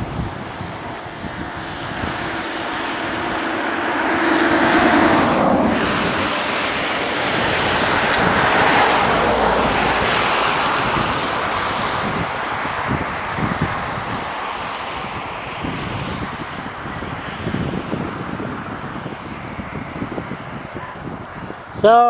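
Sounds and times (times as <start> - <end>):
passing vehicle rushing: 0.0 - 21.9.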